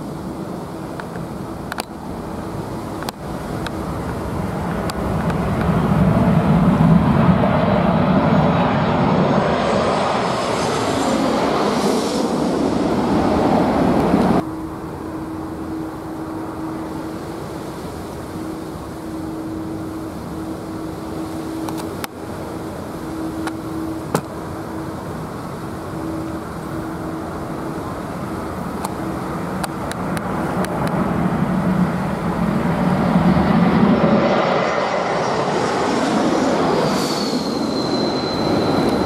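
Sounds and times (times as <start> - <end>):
high jet engine whine: 0.0 - 39.0
jet airliner passing overhead: 0.0 - 39.0.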